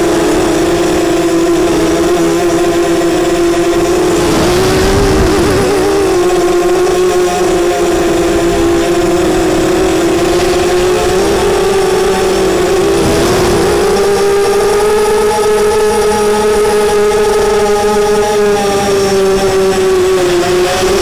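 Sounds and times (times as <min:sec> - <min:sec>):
drone motors buzzing: 0:00.0 - 0:21.0.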